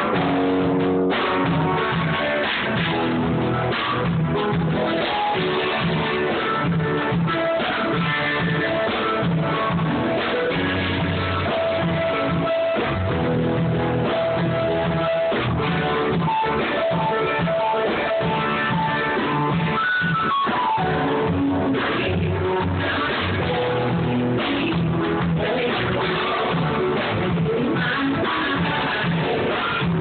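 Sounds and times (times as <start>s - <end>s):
muffled guitar band music: 0.0s - 30.0s.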